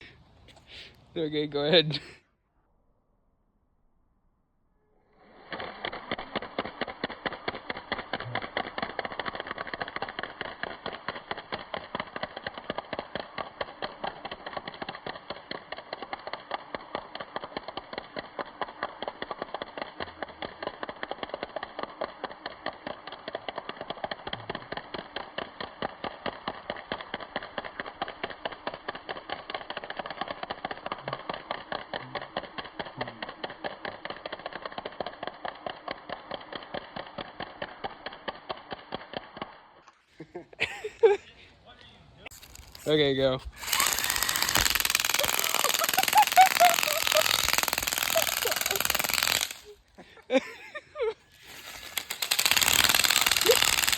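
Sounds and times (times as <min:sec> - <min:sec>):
toy car motor pulsing: 0:05.2 - 0:40.1, 0:42.3 - 0:53.9.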